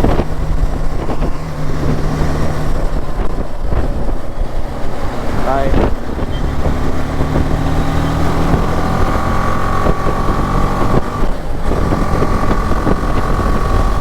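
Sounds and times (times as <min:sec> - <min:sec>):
motorcycle engine cruising: 0:00.0 - 0:14.0
wind on microphone: 0:00.0 - 0:14.0.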